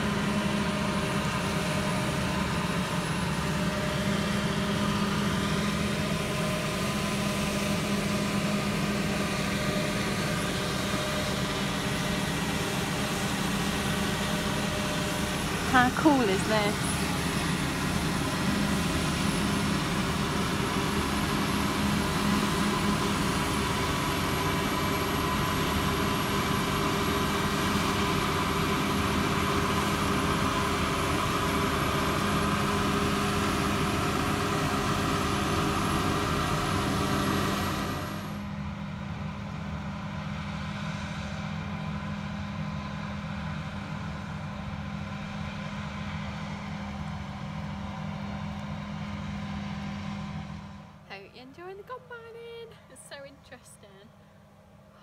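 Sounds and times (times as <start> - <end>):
high machinery whine: 0.0 - 51.2
combine harvester engine drone: 0.0 - 55.0.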